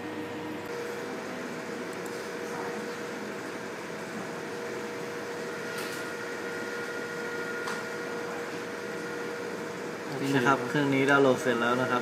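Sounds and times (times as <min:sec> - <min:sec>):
computer fan hum: 0:00.0 - 0:12.0
mid-pitched whine: 0:00.0 - 0:12.0.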